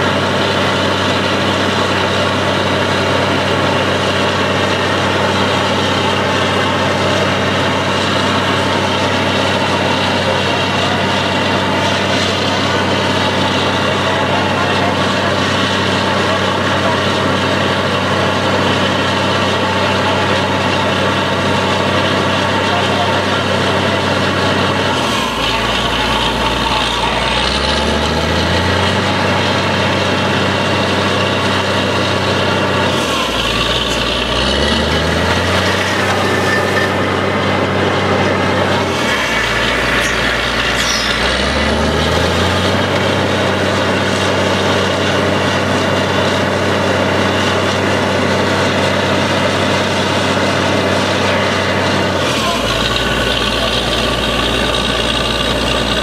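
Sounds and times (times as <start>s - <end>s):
drilling rig engine revving: 0.0s - 56.0s.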